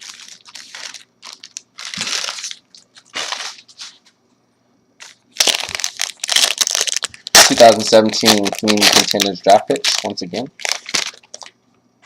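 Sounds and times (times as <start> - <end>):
foil wrapper crinkling and tearing: 0.0 - 4.0, 5.0 - 11.5.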